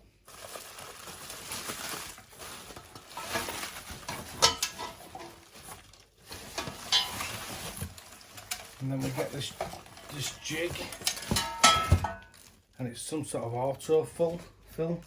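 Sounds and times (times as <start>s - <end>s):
packaging rustling and crinkling: 0.0s - 12.8s.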